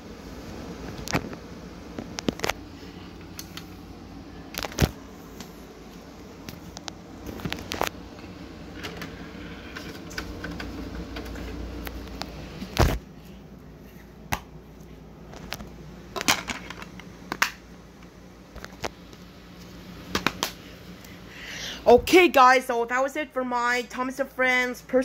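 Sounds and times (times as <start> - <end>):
low hum: 0.0 - 22.2.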